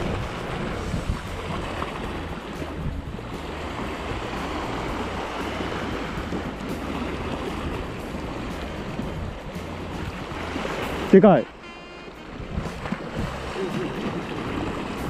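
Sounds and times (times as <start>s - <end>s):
wind buffeting microphone: 0.0s - 11.2s, 12.1s - 15.0s
sea waves washing over rocks: 0.0s - 11.6s, 12.2s - 15.0s.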